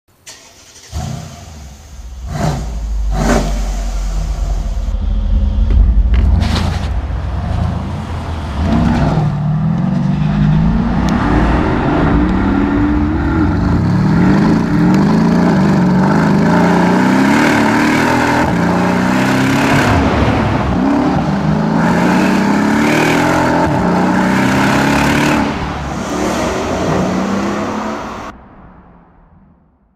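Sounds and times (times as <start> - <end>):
exhaust cracks: 0.2 - 27.2
car engine accelerating: 0.3 - 28.4.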